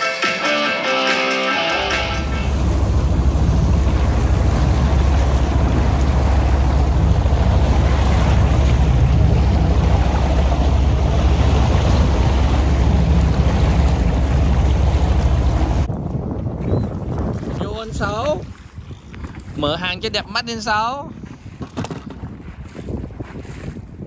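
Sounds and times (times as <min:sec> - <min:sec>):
waves washing around boat: 0:01.6 - 0:24.0
wind rumbling on microphone: 0:02.2 - 0:24.0.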